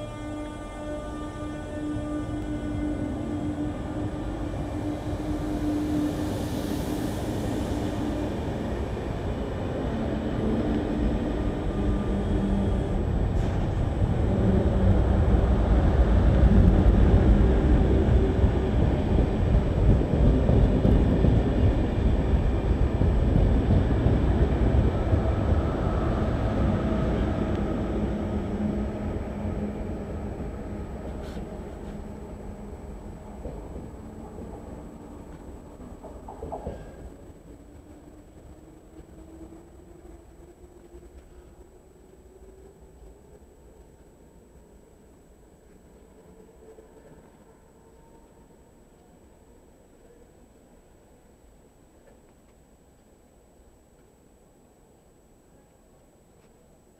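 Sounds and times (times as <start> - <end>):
train wheels rumbling on rails: 0.0 - 48.4.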